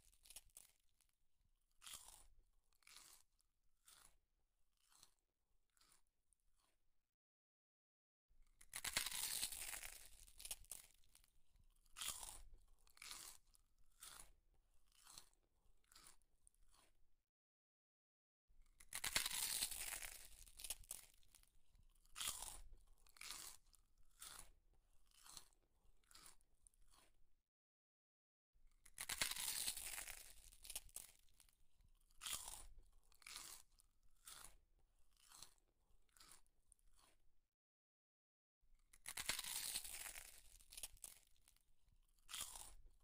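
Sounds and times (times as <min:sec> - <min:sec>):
person chewing and crunching food: 0:00.0 - 0:06.8, 0:08.4 - 0:17.0, 0:18.6 - 0:27.2, 0:28.7 - 0:37.3, 0:38.8 - 0:43.0.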